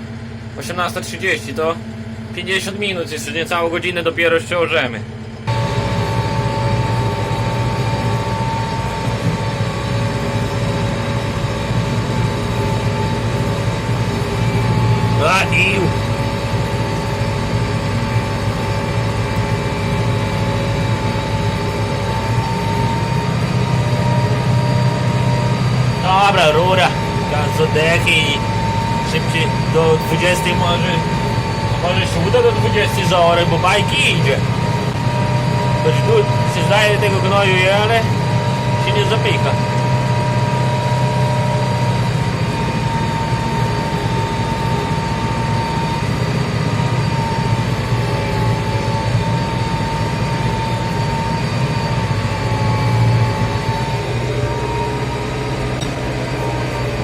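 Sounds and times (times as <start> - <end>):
steady whine: 0.0 - 57.0
tractor engine drone: 0.0 - 57.0.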